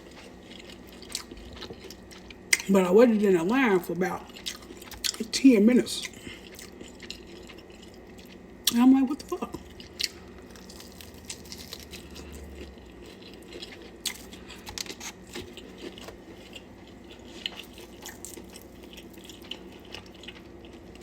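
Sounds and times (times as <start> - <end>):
person chewing food: 0.0 - 2.7, 4.2 - 5.4, 6.0 - 8.8, 9.5 - 21.0.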